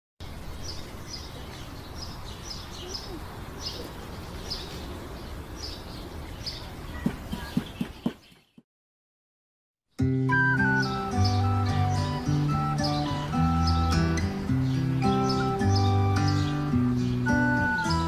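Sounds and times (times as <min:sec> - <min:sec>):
small birds chirping: 0:00.2 - 0:08.6, 0:09.9 - 0:18.0.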